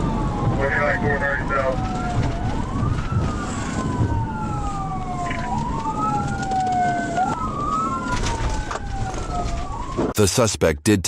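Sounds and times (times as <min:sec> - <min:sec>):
police siren wailing: 0:00.0 - 0:10.2
road and engine rumble: 0:00.0 - 0:10.4.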